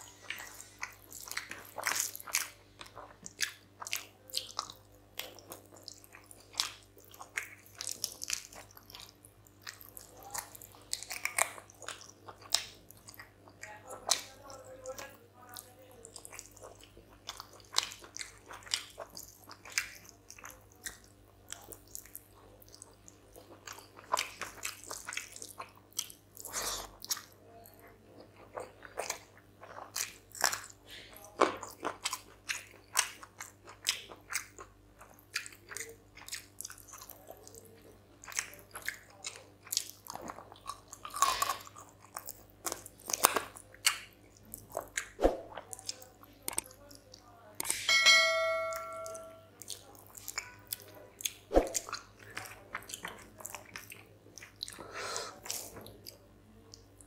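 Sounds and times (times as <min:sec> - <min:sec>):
man chewing food: 0:00.0 - 0:14.3, 0:15.6 - 0:47.8, 0:49.5 - 0:57.0.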